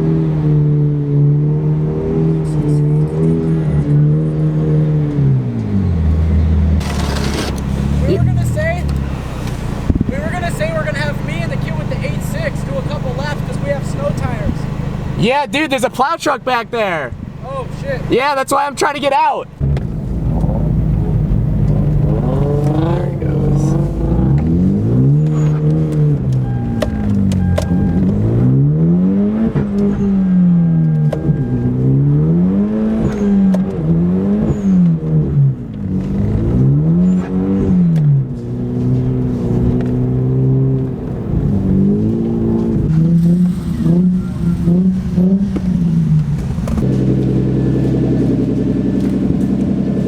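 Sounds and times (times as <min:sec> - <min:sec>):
car engine revving: 0:00.0 - 0:50.0.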